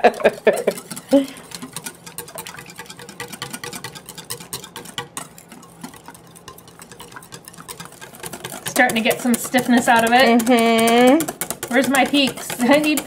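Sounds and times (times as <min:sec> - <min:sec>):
whisk clicking in metal bowl: 0:00.0 - 0:13.0.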